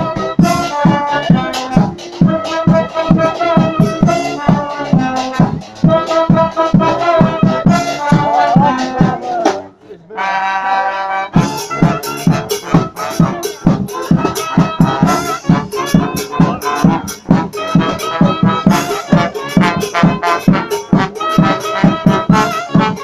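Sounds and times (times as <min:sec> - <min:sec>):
fast driving drum beat: 0:00.0 - 0:09.7, 0:11.4 - 0:23.0
brass band horns: 0:00.0 - 0:23.0.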